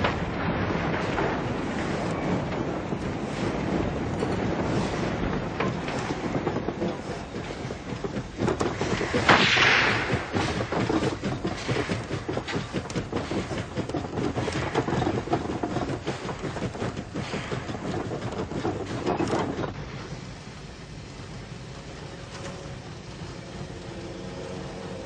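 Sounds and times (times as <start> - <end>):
steam locomotive clattering: 0.0 - 25.0.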